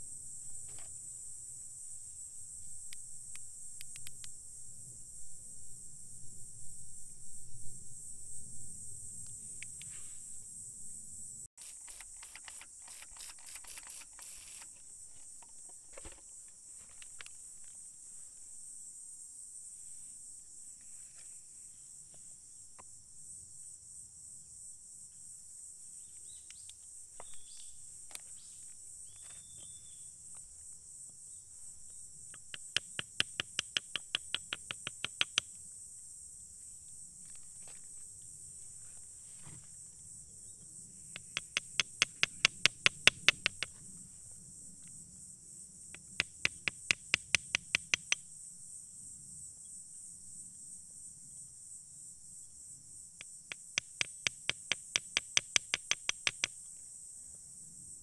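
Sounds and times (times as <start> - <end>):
insect chorus: 0.0 - 58.0.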